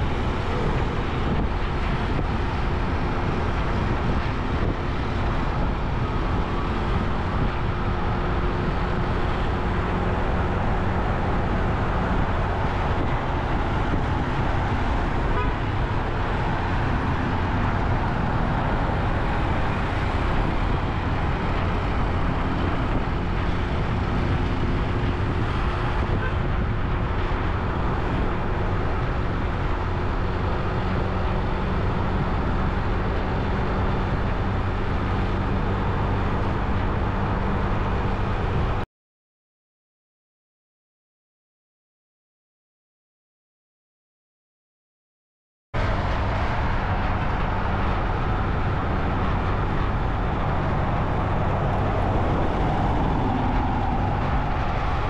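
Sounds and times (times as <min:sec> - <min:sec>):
motorcycle engine and road noise: 0:00.0 - 0:38.8, 0:45.8 - 0:55.0.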